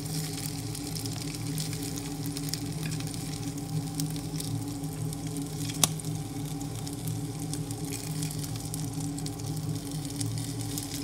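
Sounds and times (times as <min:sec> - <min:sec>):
chicken sizzling in a pan: 0:00.0 - 0:11.0
steady low hum: 0:00.0 - 0:11.0.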